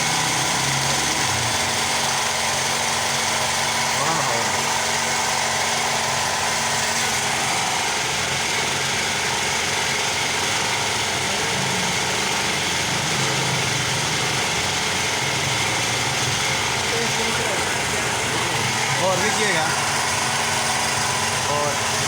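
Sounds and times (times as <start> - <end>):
mechanical drone with hiss: 0.0 - 22.0.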